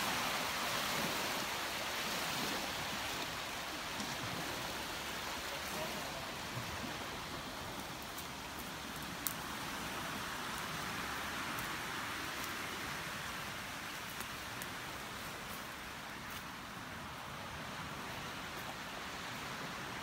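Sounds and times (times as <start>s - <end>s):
small waves on a stony shore: 0.0s - 20.0s.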